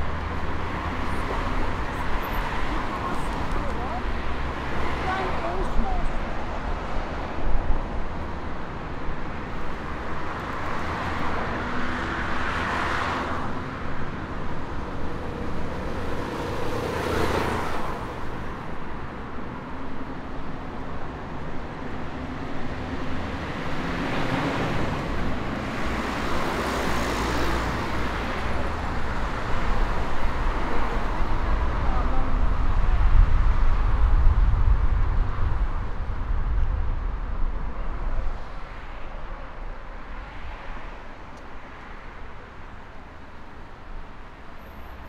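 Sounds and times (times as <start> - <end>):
traffic rumble: 0.0 - 45.0
vehicles passing close by: 0.0 - 45.0.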